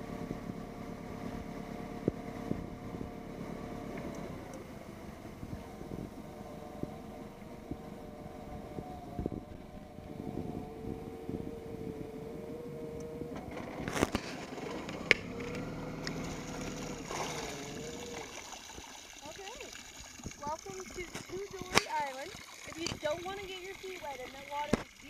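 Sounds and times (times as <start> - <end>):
boat engine running: 0.0 - 25.0
water washing along hull: 0.0 - 25.0.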